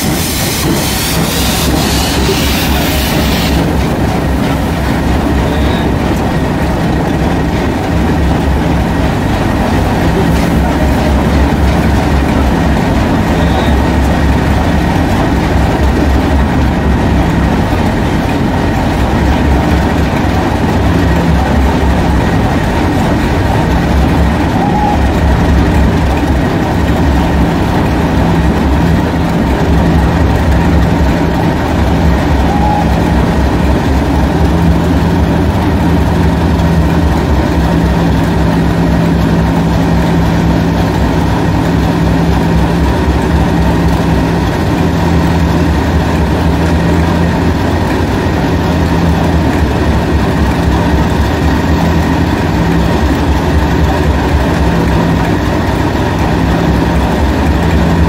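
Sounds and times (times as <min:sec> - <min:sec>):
low train rumble: 0:00.0 - 0:58.0
wheels clicking over rail joints: 0:00.0 - 0:58.0.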